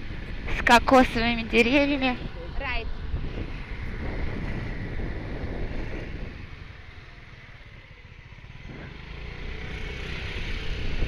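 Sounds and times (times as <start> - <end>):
moped engine running: 0.0 - 11.0.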